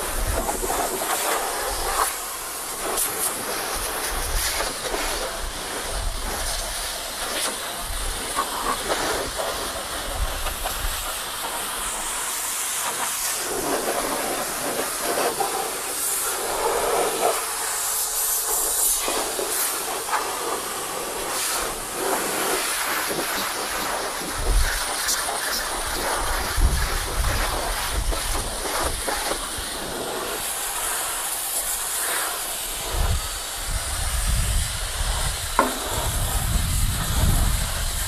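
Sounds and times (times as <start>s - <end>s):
pressure washer jet spraying: 0.0s - 38.0s.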